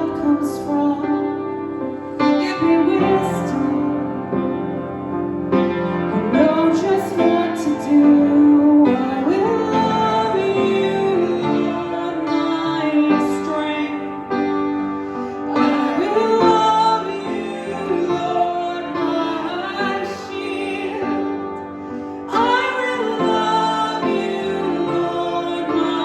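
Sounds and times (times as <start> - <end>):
woman singing slow song: 0.0 - 4.2, 6.1 - 14.4, 15.4 - 21.6, 22.2 - 26.0.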